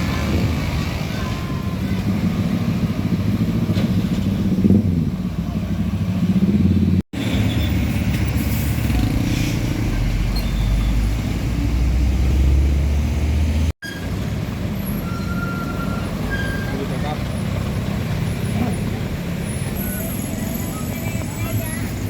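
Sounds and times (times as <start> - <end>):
heavy truck engines rumbling: 0.0 - 22.0.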